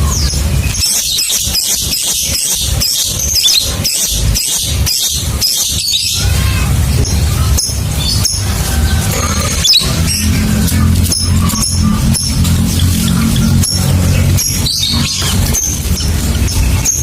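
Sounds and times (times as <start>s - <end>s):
low rumbling hum: 2.1s - 17.0s.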